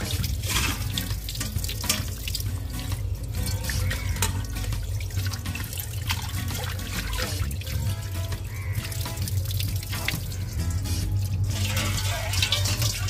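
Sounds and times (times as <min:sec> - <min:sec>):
tap water splashing on stone floor: 0:00.0 - 0:13.0.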